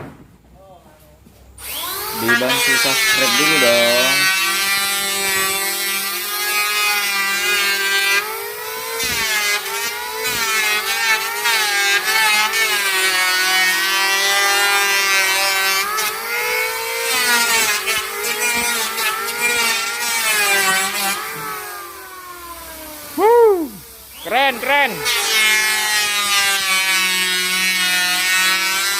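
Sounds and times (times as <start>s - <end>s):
power tool cutting wood: 1.6s - 28.9s.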